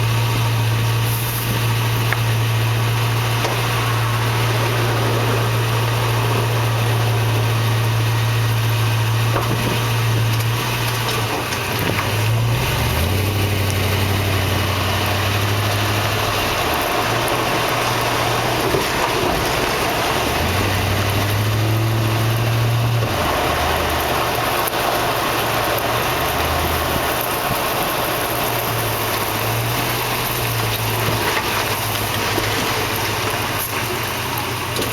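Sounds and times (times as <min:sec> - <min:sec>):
pickup truck engine drone: 0:00.0 - 0:34.9
road and cab noise: 0:00.0 - 0:34.9.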